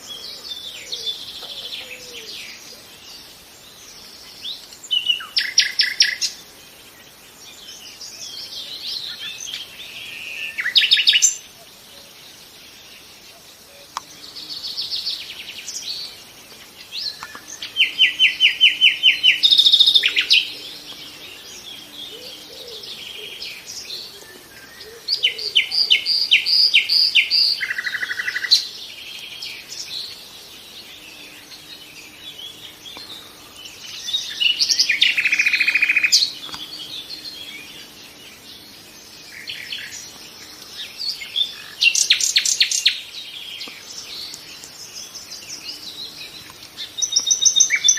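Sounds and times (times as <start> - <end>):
nightingale singing: 0.0 - 47.9.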